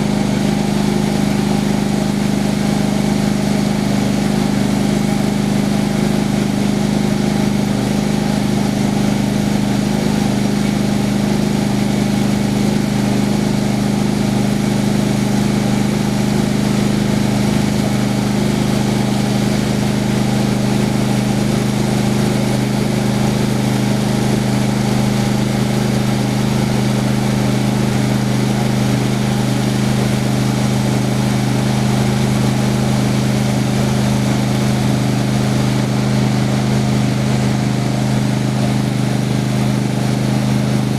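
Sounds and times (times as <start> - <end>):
sawmill engine humming: 0.0 - 40.9.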